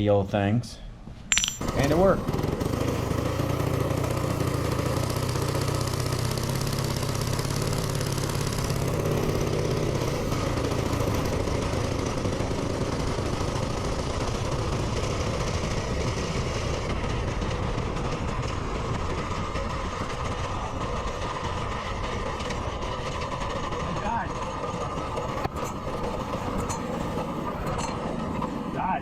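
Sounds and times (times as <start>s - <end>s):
minibike engine running: 1.9s - 28.8s.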